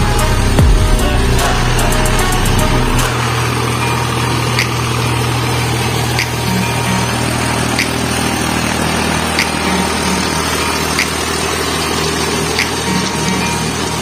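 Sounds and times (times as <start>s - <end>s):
tractor diesel engine: 0.0s - 14.0s.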